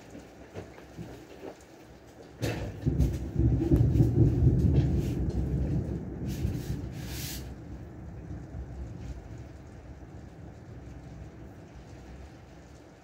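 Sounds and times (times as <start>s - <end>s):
heavy rain: 0.0s - 13.0s
thunder crack and rumble: 2.1s - 13.0s.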